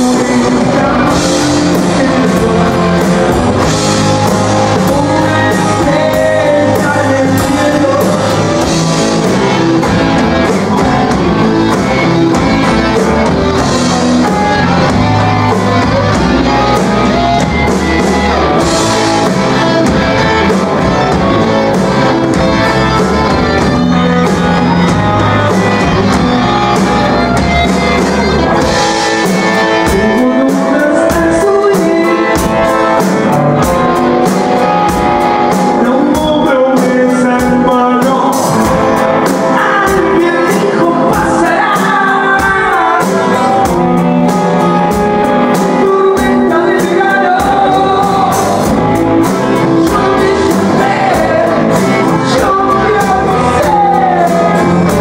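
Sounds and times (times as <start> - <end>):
drum kit: 0.0 - 55.0
electric guitars: 0.0 - 55.0
person singing: 0.0 - 55.0.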